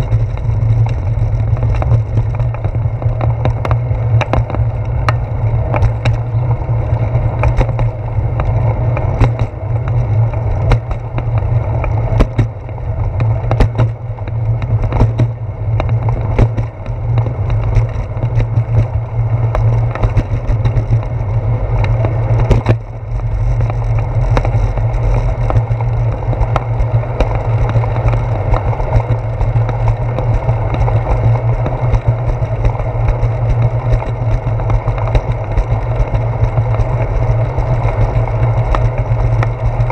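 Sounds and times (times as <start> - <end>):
clicks and knocks from bumps: 0.0 - 6.6, 7.3 - 39.9
bicycle tyres rolling on concrete: 0.0 - 39.9.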